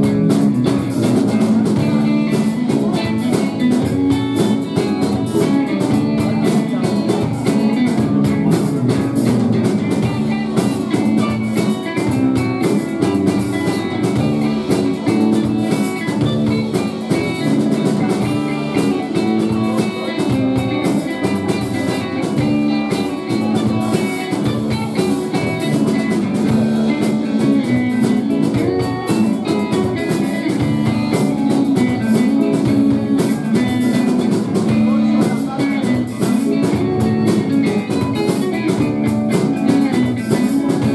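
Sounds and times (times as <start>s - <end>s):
drum kit beat: 0.0s - 40.9s
electric guitar: 0.0s - 40.9s.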